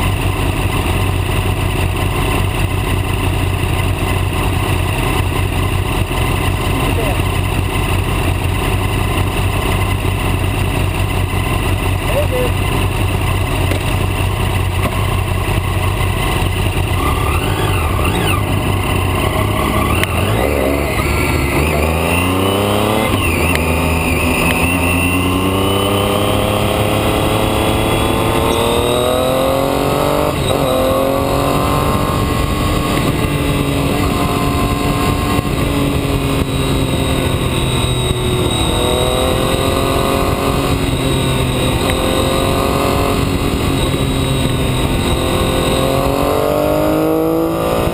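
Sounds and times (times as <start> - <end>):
vehicle engine accelerating through gears: 0.0 - 47.9
wind and road rush: 0.0 - 47.9.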